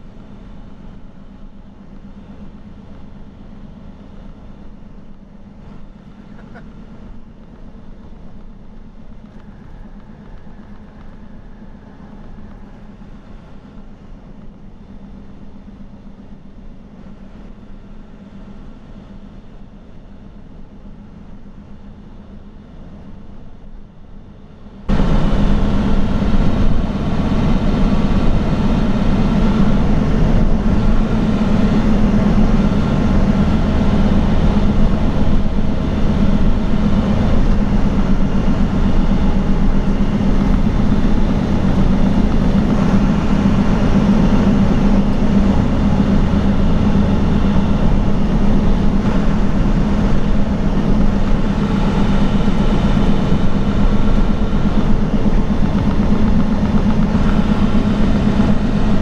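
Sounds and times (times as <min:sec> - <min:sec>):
engine and road noise drone: 0:00.0 - 0:59.0.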